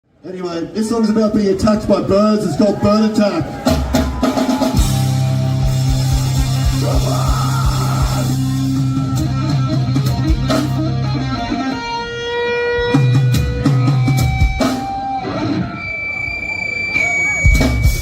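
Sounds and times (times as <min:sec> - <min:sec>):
punk rock band playing: 0:03.4 - 0:18.0.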